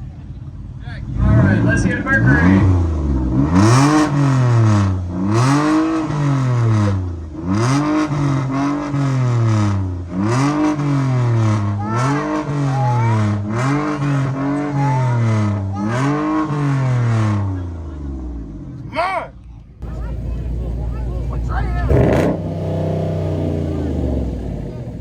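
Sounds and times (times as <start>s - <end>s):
car engine revving: 1.0s - 18.9s, 19.8s - 25.0s.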